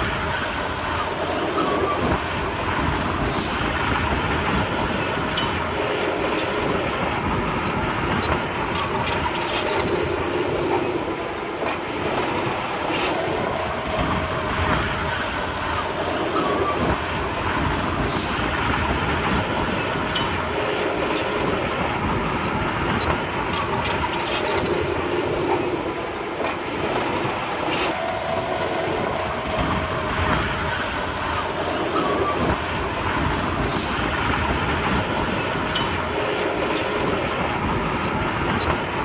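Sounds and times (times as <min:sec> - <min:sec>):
bulldozer diesel engine running: 0:00.0 - 0:39.0
steel tracks clanking and squeaking: 0:00.0 - 0:39.0.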